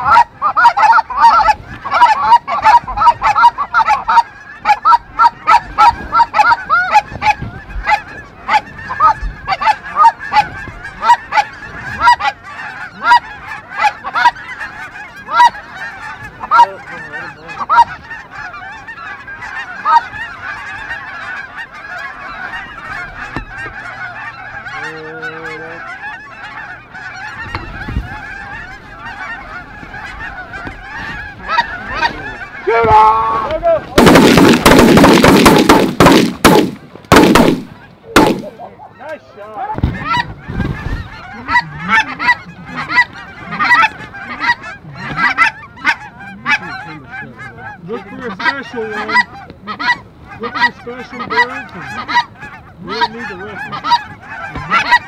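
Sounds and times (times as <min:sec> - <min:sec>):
geese honking: 0:00.0 - 0:55.0.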